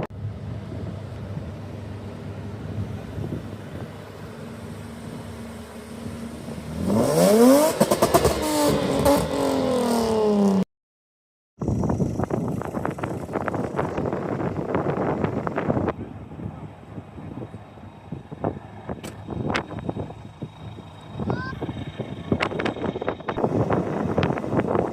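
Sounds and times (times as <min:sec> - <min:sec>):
car engine idling and revving: 0:00.0 - 0:10.6, 0:11.6 - 0:24.9.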